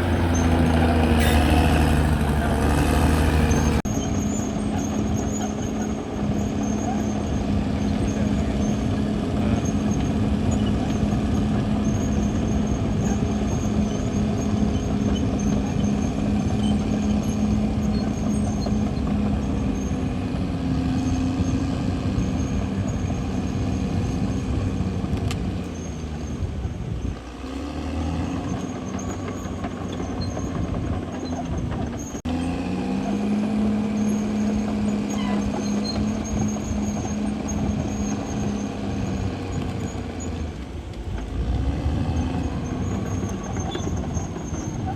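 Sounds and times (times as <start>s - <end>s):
bulldozer diesel engine drone: 0.0s - 44.9s.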